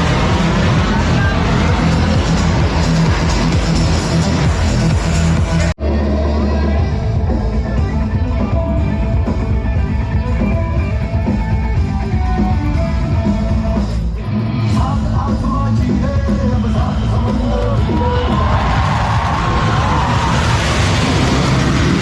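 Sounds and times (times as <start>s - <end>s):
loud rock music with guitar: 0.0s - 22.0s.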